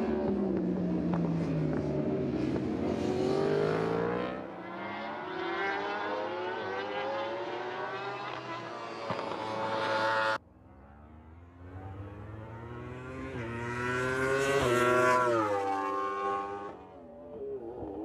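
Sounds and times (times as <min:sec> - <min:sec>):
motorcycle engine revving: 0:01.7 - 0:16.9.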